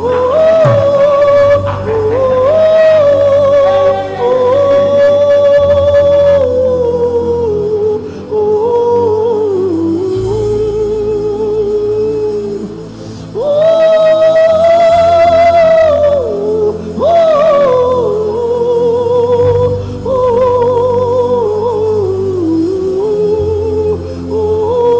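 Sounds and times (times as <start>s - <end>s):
person singing gospel song: 0.0s - 24.9s
sustained accompaniment and bass: 0.0s - 24.9s.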